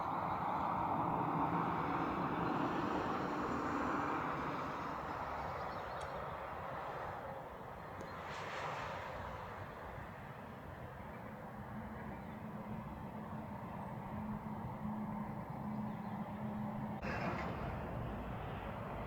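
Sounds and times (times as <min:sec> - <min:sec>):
distant engine rumble passing: 0:00.0 - 0:19.0.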